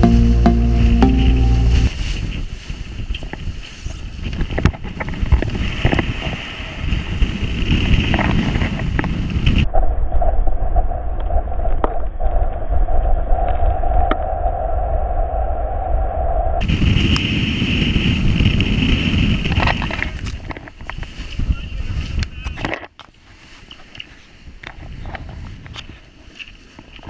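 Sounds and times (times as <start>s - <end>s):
wind buffeting microphone: 1.9s - 22.7s, 24.4s - 26.1s.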